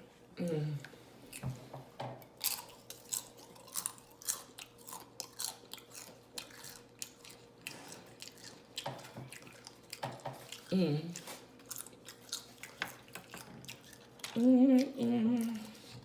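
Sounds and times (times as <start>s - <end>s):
person chewing with mouth smacking: 0.8s - 16.0s.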